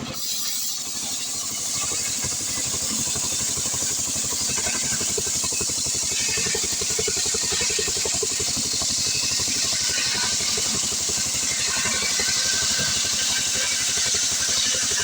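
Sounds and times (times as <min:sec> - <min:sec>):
chainsaw running: 0:01.0 - 0:15.0.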